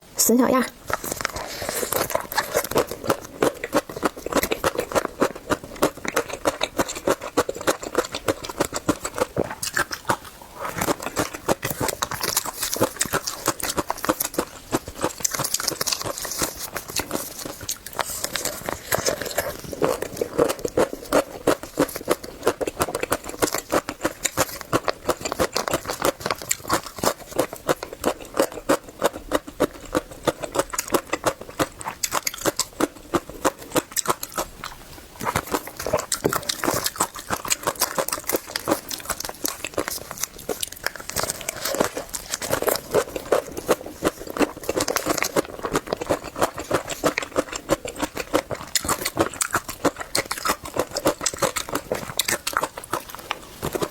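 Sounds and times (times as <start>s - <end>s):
chewing crunchy food: 0.8s - 53.9s.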